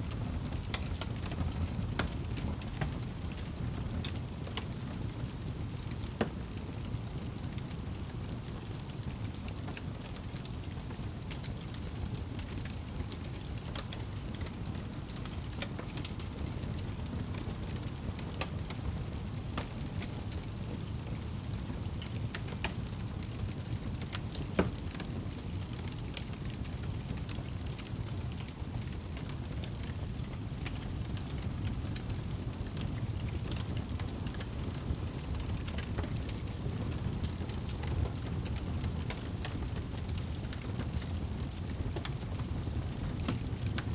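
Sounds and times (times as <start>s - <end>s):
fire crackling: 0.0s - 43.9s
steady rain: 0.0s - 43.9s.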